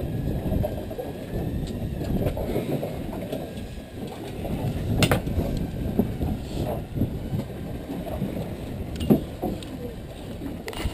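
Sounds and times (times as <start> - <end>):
boat engine rumbling: 0.0 - 10.9.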